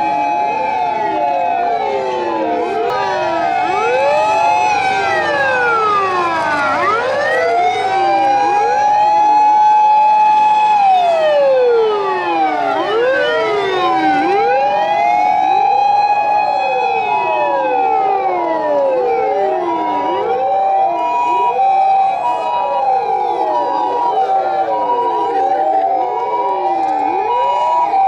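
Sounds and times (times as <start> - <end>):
fire engine sirens wailing: 0.0 - 28.0.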